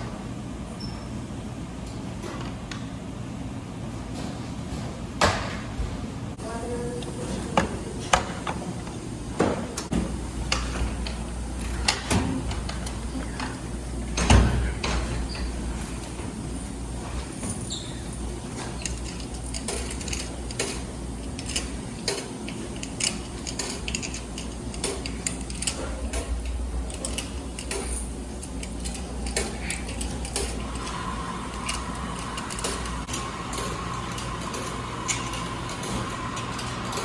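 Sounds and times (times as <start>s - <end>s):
washing machine humming: 0.0s - 37.0s.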